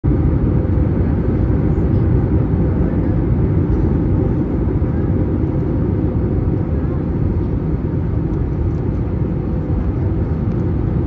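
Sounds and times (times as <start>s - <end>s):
jet engines: 0.0s - 11.0s.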